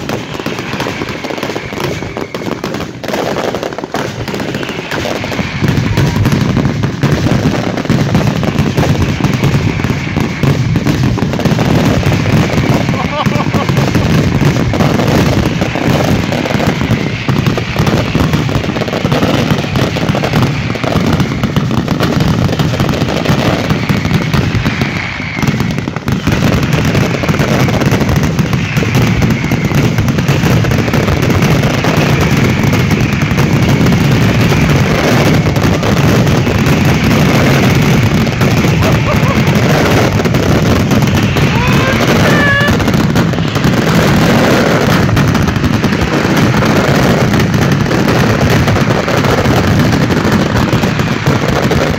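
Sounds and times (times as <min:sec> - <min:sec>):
firecrackers crackling and banging: 0:00.0 - 0:51.9
fireworks barrage: 0:00.0 - 0:51.9.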